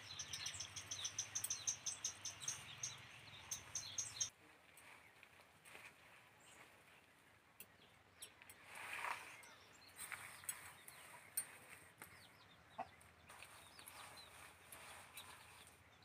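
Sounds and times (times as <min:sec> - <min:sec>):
bird calls and chirps: 0:00.0 - 0:05.2, 0:07.6 - 0:16.0.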